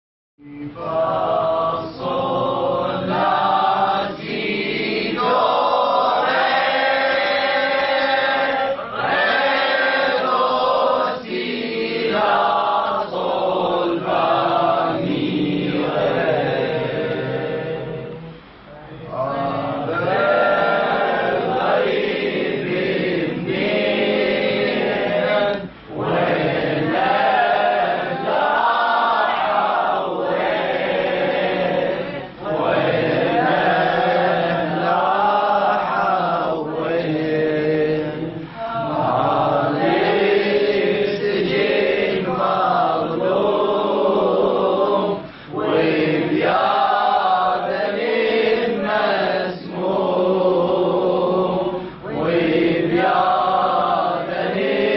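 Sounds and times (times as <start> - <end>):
melodic chanted recitation: 0.4 - 54.9.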